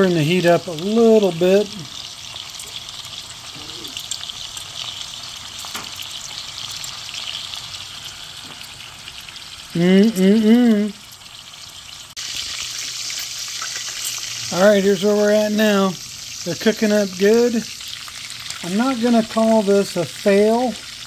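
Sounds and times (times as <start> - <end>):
bacon sizzling in a skillet: 0.0 - 21.0.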